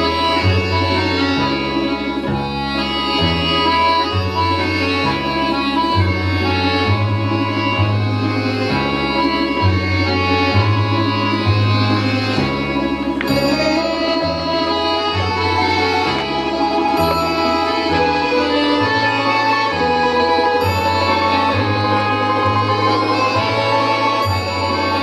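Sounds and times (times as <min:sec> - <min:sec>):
instrumental folk music: 0:00.0 - 0:25.0.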